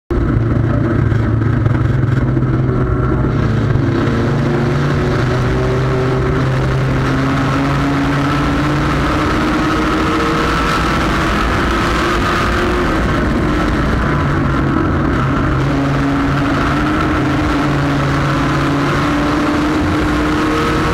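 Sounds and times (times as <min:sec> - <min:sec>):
race car engine running hard: 0:00.1 - 0:20.9
wind and road noise: 0:00.1 - 0:20.9.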